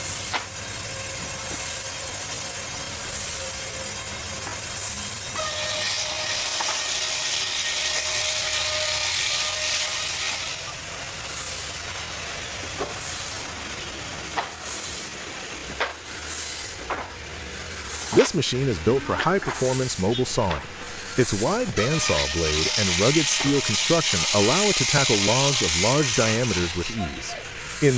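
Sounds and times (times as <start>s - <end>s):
bandsaw blade hissing in wood: 0.0s - 16.8s, 17.7s - 27.9s.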